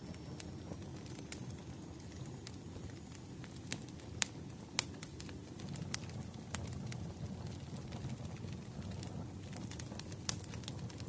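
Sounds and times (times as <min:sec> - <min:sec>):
fire crackling: 0:00.0 - 0:11.0.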